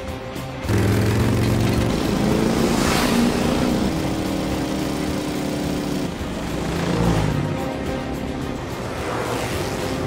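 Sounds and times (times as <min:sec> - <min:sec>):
motorcycle engine racing: 0:00.6 - 0:10.0.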